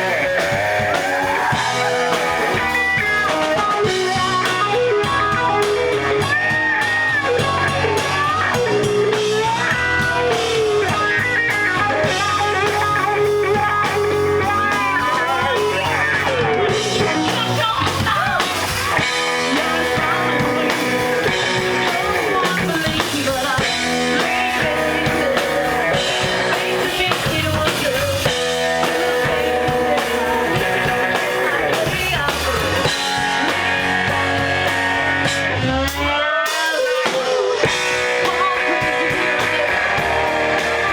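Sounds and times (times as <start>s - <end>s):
bass guitar: 0.0s - 40.9s
drum kit: 0.0s - 40.9s
electric guitar lead: 0.0s - 40.9s.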